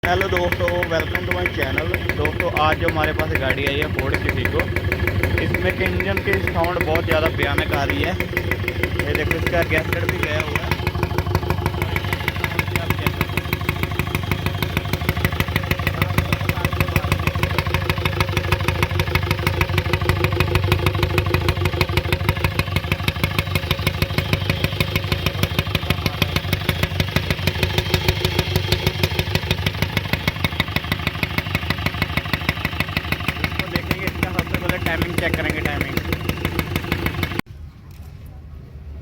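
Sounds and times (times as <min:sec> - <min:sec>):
diesel engine idling with knocking: 0:00.0 - 0:37.5.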